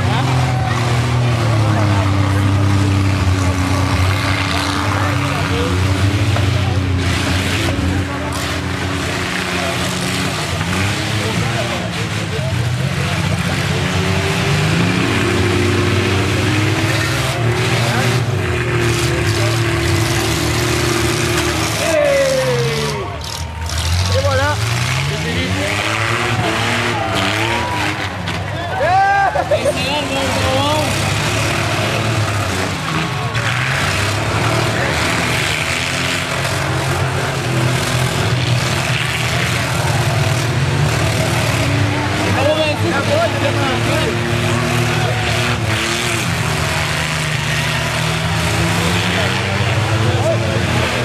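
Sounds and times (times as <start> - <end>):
car engines running under load: 0.0 - 51.0
faint crowd voices: 0.0 - 51.0.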